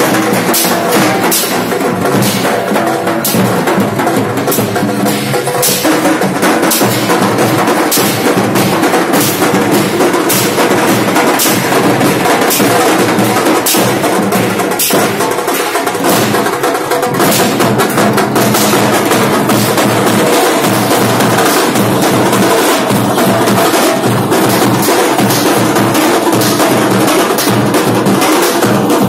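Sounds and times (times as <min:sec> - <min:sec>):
driving drum beat: 0:00.0 - 0:29.0.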